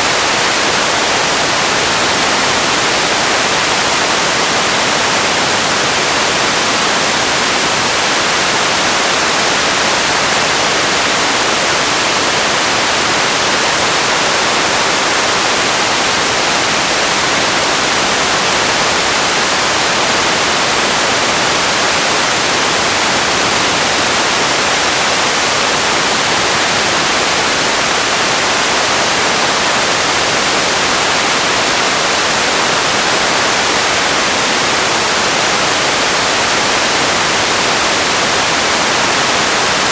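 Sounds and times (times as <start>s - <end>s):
steady ambient hiss: 0.0s - 39.9s.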